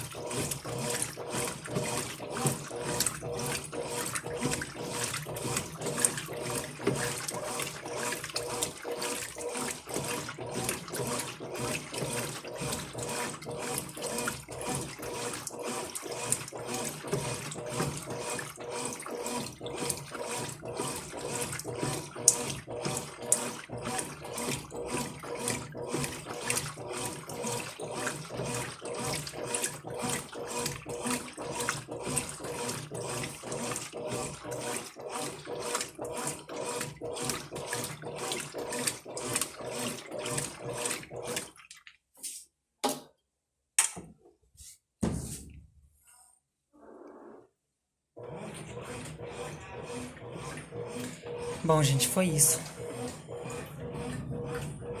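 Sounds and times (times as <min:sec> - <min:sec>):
washing machine swishing and sloshing: 0:00.0 - 0:42.4, 0:44.5 - 0:46.3, 0:48.2 - 0:55.0.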